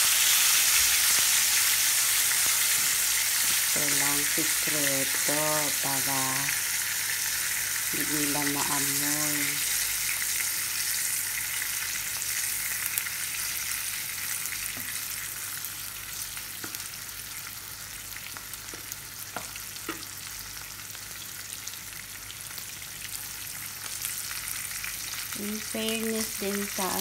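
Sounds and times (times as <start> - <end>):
fish frying in oil: 0.0 - 27.0.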